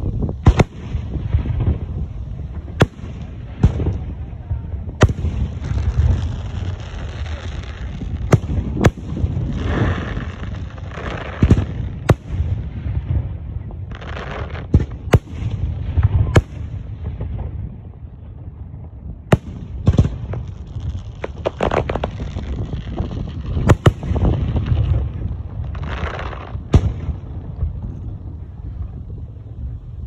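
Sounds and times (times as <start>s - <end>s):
crackling hiss: 0.0s - 18.2s, 19.0s - 30.0s
firework bangs: 0.0s - 28.4s
low rumble: 0.0s - 30.0s.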